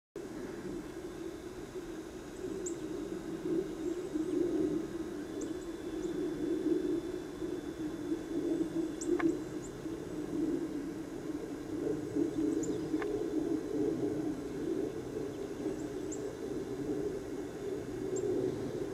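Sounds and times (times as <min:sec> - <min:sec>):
low rushing background noise: 0:00.2 - 0:18.9
faint bird chirps: 0:00.5 - 0:18.9.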